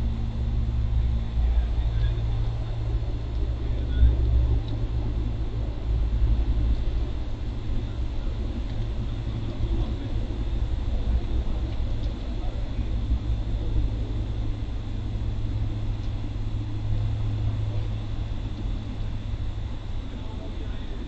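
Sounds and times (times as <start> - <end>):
faint high hum: 0.0 - 21.0
low outdoor rumble: 0.0 - 21.0.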